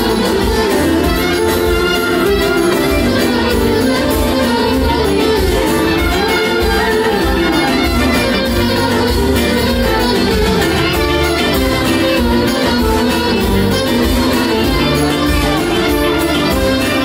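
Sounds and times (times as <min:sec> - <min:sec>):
clarinet: 0:00.0 - 0:17.0
keyboard accompaniment: 0:00.0 - 0:17.0
violin: 0:00.0 - 0:17.0.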